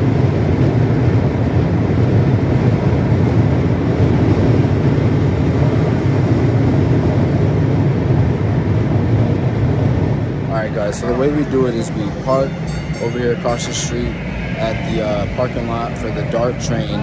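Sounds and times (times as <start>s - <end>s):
car cabin road noise: 0.0s - 17.0s.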